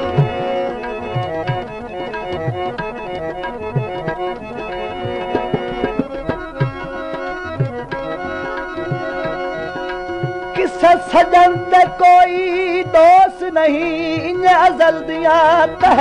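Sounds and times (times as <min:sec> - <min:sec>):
reedy instrument melody: 0:00.0 - 0:16.0
tabla rhythm: 0:00.0 - 0:16.0.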